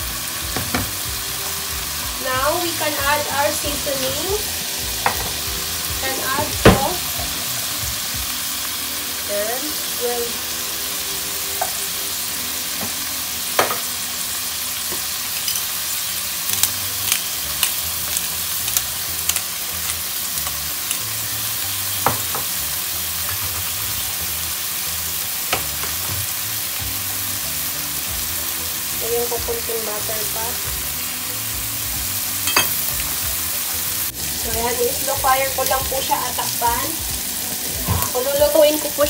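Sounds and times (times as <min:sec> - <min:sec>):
chicken sizzling in a pan: 0:00.0 - 0:39.0.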